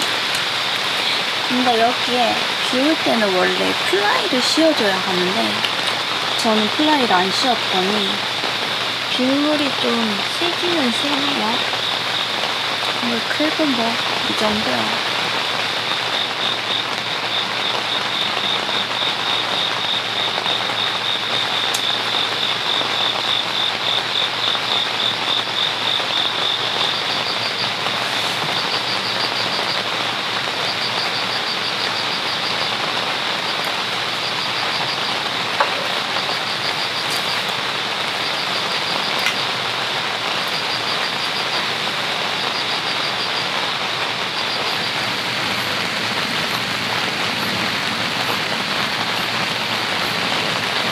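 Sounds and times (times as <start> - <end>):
heavy rain drumming on tent: 0.0 - 50.9.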